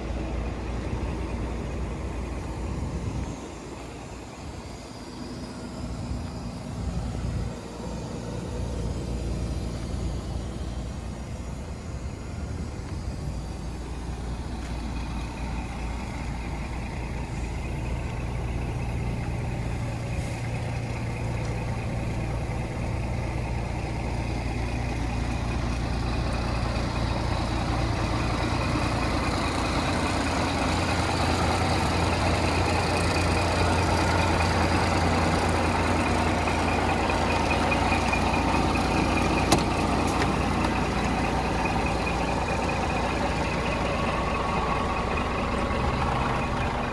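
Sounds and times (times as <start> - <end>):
truck diesel engine idling: 0.0 - 46.9.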